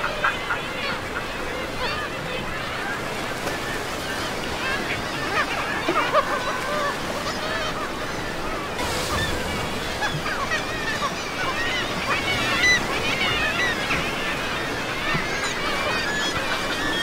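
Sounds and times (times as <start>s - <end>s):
seabirds squawking: 0.0s - 17.0s
surf: 0.0s - 17.0s
wind: 0.0s - 17.0s.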